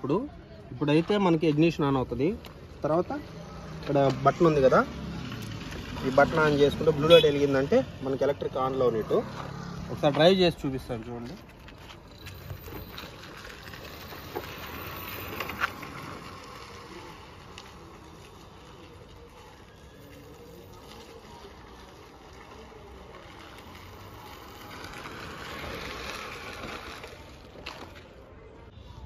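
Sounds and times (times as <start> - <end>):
tyres rolling on dirt road: 0.0 - 28.7.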